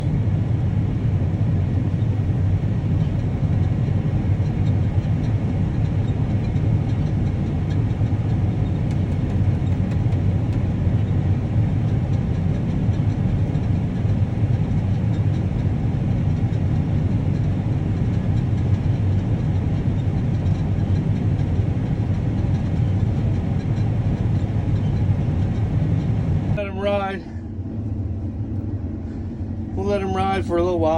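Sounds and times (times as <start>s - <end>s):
farm vehicle engine rumbling: 0.0s - 30.9s.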